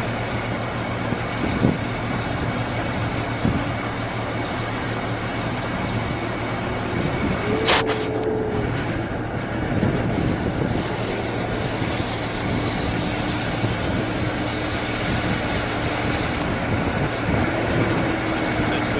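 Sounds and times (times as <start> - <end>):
airplane rushing noise: 0.0 - 18.9.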